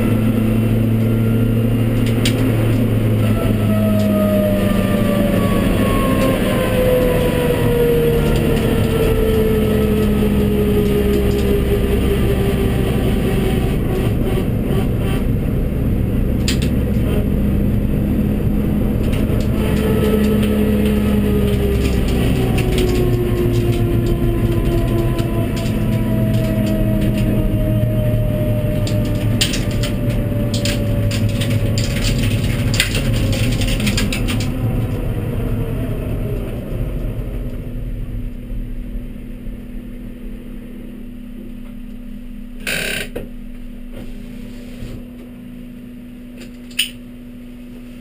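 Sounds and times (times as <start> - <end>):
car engine in cabin: 0.0 - 48.0.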